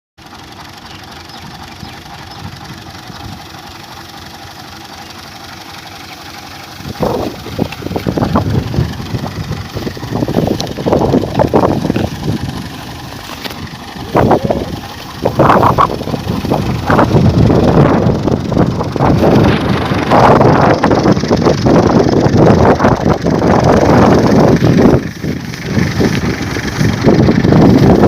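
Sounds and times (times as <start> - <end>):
harvesting machine engine: 0.2 - 28.0.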